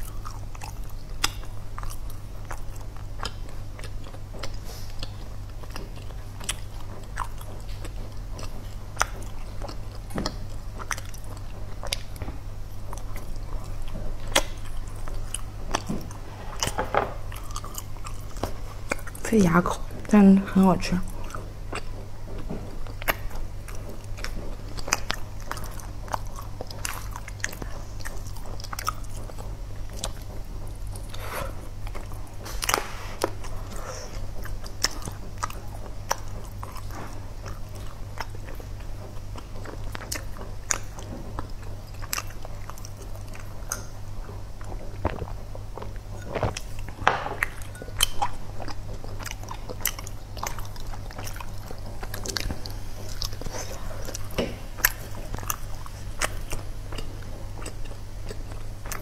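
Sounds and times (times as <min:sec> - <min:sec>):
biting and chewing: 0:00.0 - 0:59.0
steady low hum: 0:00.0 - 0:59.0.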